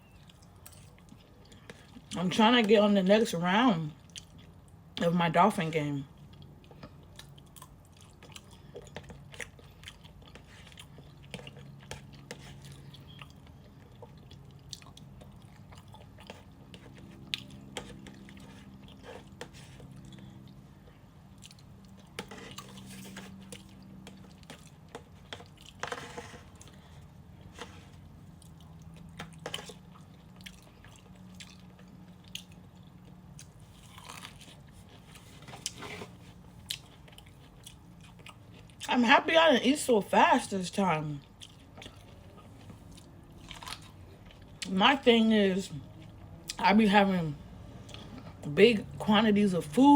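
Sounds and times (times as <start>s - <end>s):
person chewing food: 0.0s - 2.2s, 4.0s - 5.0s, 6.1s - 38.9s, 41.2s - 44.7s, 47.8s - 48.4s.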